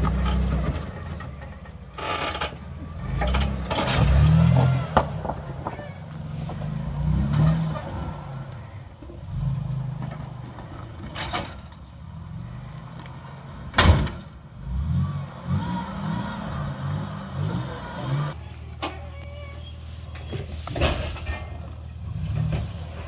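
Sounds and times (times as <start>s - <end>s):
truck engine revving: 0.0s - 18.6s, 19.6s - 23.0s.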